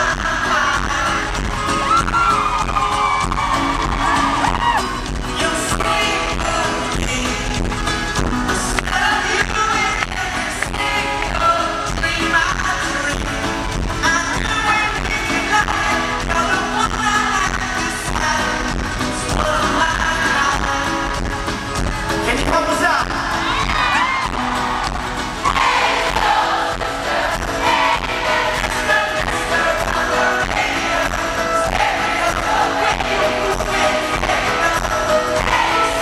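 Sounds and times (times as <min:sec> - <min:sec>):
man singing: 0:00.0 - 0:24.4, 0:26.8 - 0:36.0
live pop-rock band playing: 0:00.0 - 0:36.0.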